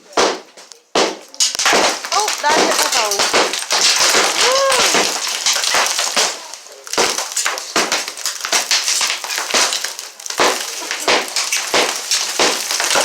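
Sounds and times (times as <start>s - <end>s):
wall chunks breaking and falling: 0.0s - 13.0s
wall demolition blows: 0.0s - 13.0s.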